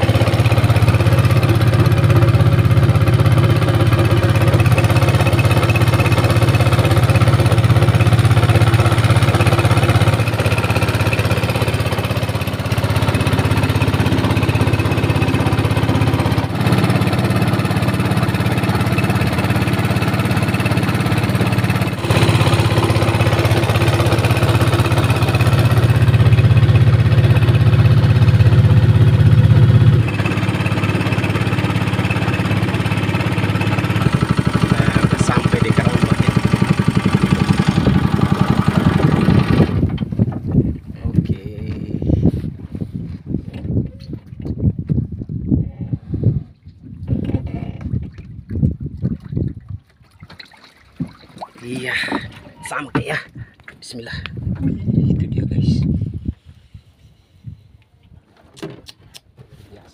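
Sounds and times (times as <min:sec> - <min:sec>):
boat engine running: 0:00.0 - 0:57.5.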